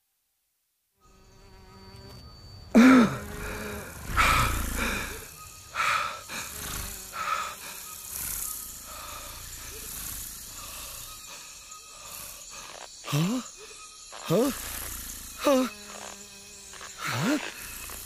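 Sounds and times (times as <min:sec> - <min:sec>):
buzzing insect-like creature sounds: 0:01.1 - 0:18.0.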